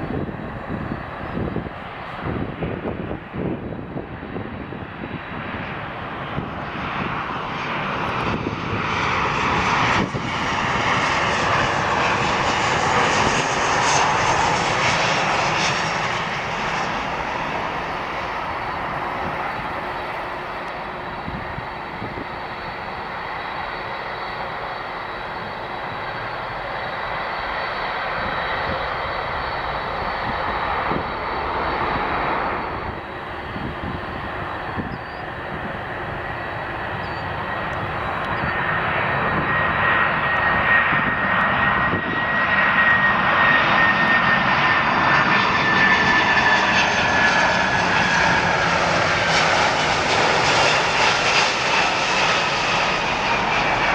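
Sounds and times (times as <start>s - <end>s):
jet airliner engine noise: 0.0s - 53.9s
high engine whine: 5.7s - 53.9s.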